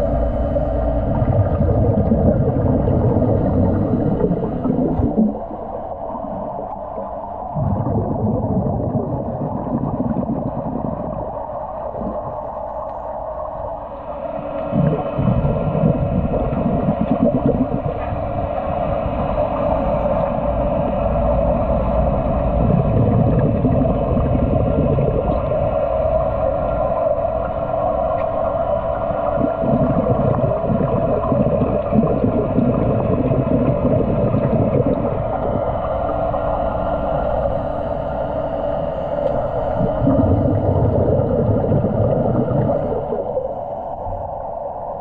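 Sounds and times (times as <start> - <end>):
bubbling and gurgling of exhaled air: 0.0 - 45.0
steady underwater hum: 0.0 - 45.0.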